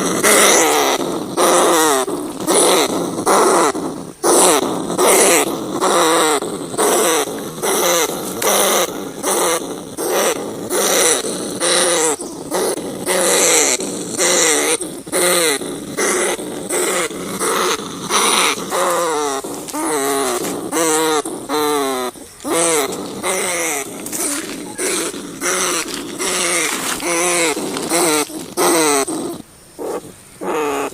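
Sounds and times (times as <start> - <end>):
rats crying: 0.0 - 30.9.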